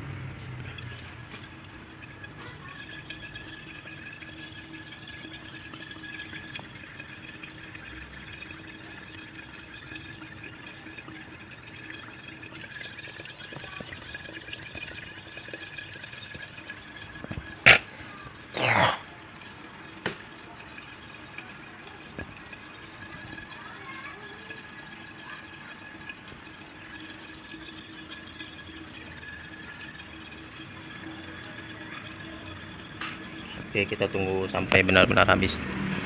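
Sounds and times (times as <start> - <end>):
gas bubbling and hissing in water: 0.0 - 36.0.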